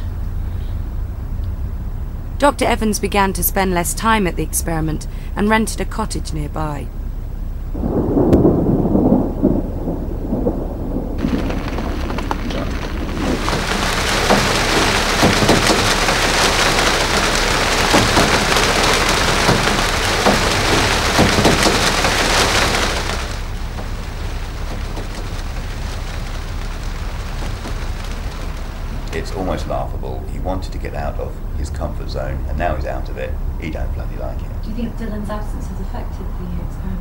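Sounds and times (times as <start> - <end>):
heavy rain falling: 0.0 - 37.0
thunder rumbling: 0.0 - 37.0.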